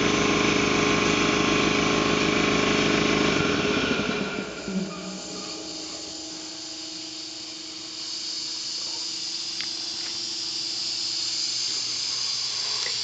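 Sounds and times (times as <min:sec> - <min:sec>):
air compressor hum: 0:00.0 - 0:13.0
air hissing: 0:00.0 - 0:13.0.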